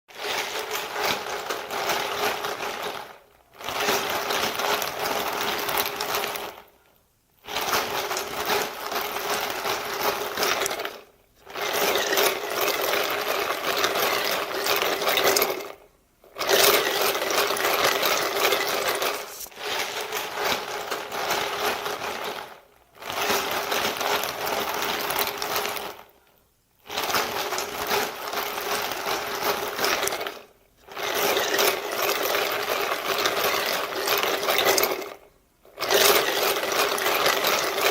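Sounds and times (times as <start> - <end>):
ice cubes clinking in a cup: 0.2 - 6.7, 7.5 - 15.8, 16.4 - 26.1, 26.9 - 37.9.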